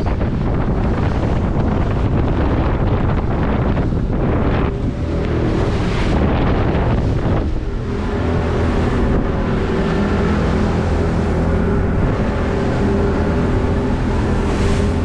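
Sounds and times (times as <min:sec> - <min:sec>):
outboard motor drone: 0:00.0 - 0:15.0
water rushing along boat hull: 0:00.0 - 0:15.0
wind buffeting microphone: 0:00.0 - 0:15.0.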